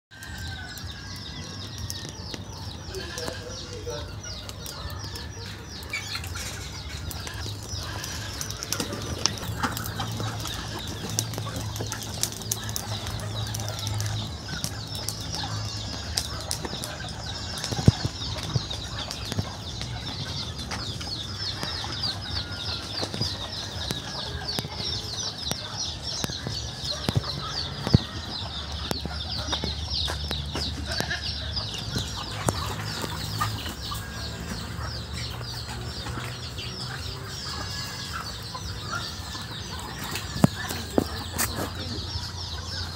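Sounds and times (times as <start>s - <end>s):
high chirping chorus: 0.1s - 42.9s.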